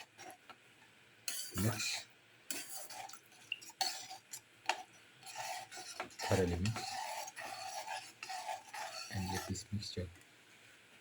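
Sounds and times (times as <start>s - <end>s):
utensil scraping and clinking pot: 0.0s - 0.5s, 1.3s - 9.9s.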